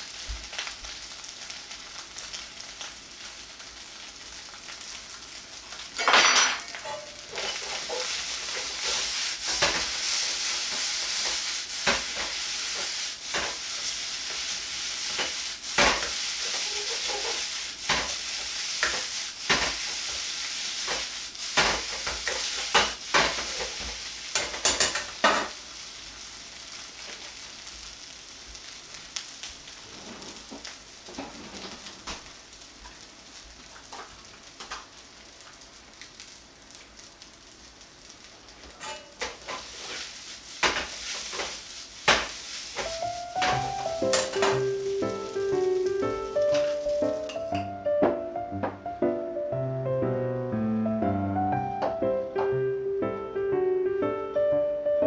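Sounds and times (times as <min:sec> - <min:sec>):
rice sizzling in a wok: 0:00.0 - 0:47.6.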